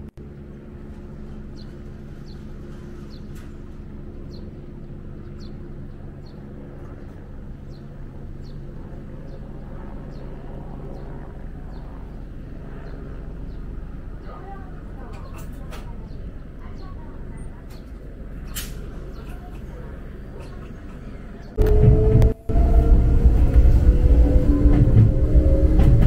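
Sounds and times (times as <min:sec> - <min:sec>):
electric train rumble and hum: 0:00.0 - 0:26.0.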